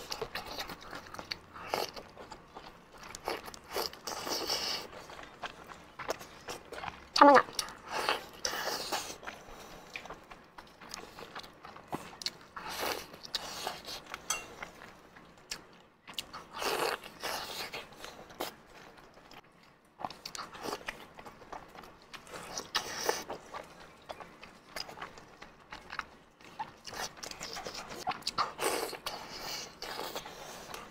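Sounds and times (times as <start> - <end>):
biting and chewing: 0.0 - 30.9.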